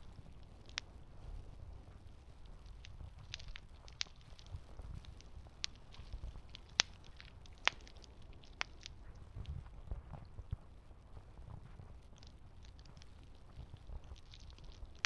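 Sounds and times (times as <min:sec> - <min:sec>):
campfire crackling and popping: 0:00.0 - 0:09.7, 0:12.0 - 0:15.0.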